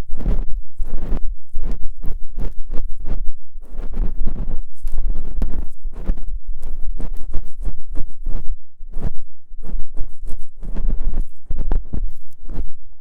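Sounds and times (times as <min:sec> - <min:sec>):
deep microphone contact rumble: 0:00.0 - 0:13.0
ear pick scraping microphone: 0:00.0 - 0:13.0.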